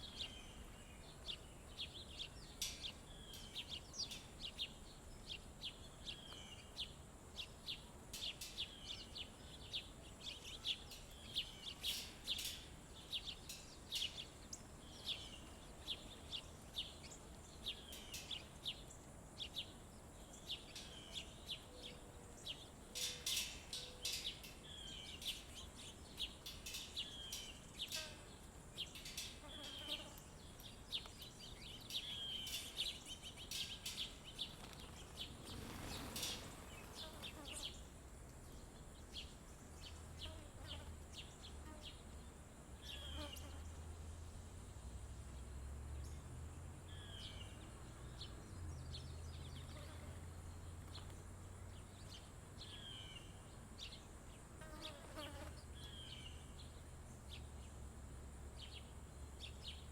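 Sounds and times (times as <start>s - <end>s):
faint high-pitched hum: 0.0s - 59.9s
small songbirds chirping: 0.0s - 59.9s.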